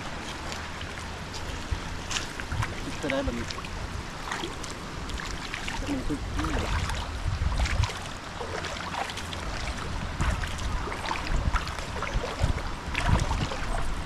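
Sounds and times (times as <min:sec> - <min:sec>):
water sloshing and splashing: 0:00.0 - 0:14.0
wind buffeting microphone: 0:00.0 - 0:14.0.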